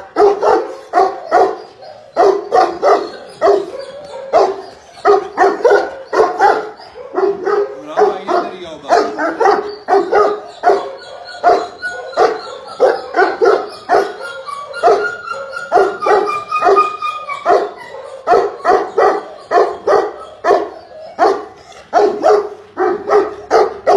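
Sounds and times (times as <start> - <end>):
large dog barking deeply: 0.0 - 23.9.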